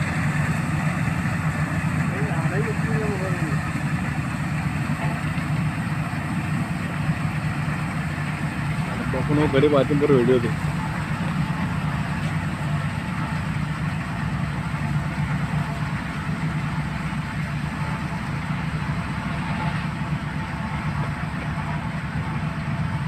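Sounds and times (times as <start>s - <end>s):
combine harvester engine running: 0.0s - 23.0s.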